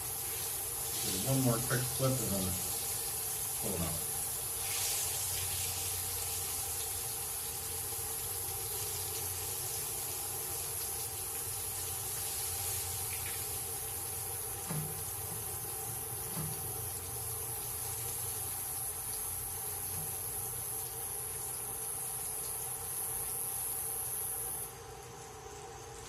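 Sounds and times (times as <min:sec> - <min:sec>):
fish sizzling in a frying pan: 0:00.0 - 0:24.7.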